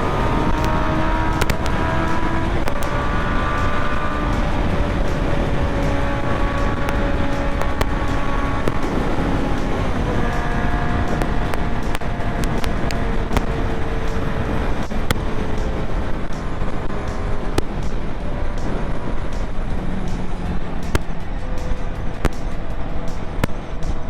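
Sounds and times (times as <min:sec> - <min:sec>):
motorcycle engine running: 0:00.0 - 0:24.0
wind rush on microphone: 0:00.0 - 0:24.0.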